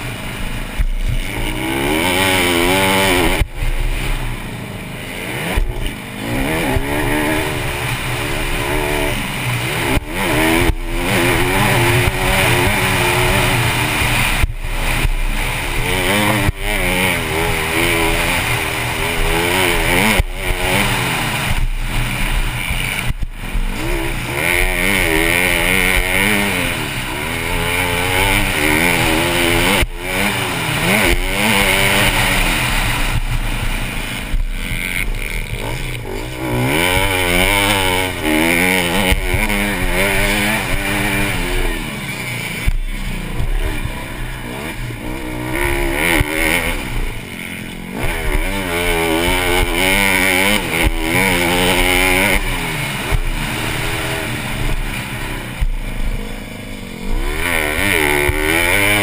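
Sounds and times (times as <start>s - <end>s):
motorcycle engine revving and shifting: 0.0s - 59.0s.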